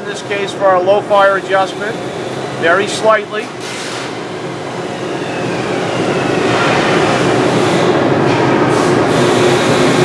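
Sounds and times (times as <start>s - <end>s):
gas boiler burner rushing: 0.0s - 10.0s.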